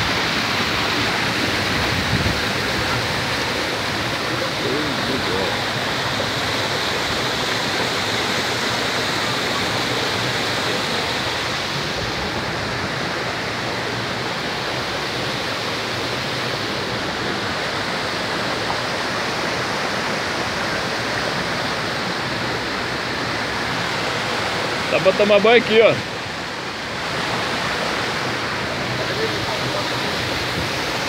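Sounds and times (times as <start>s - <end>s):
waterfall rushing over rock: 0.0s - 31.0s.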